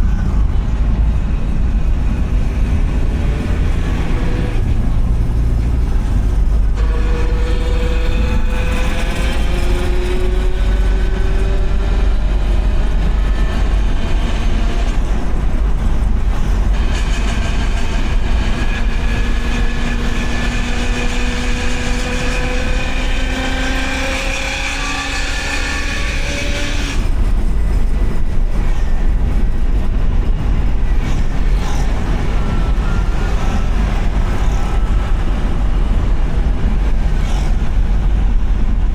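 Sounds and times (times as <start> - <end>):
car engine rumble: 0.0 - 38.9.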